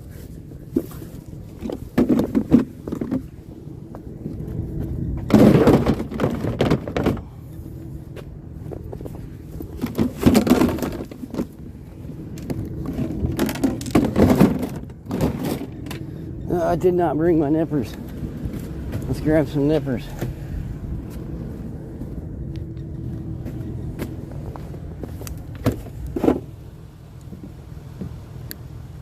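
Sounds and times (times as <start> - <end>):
junk clattering and scraping: 0.0 - 28.4.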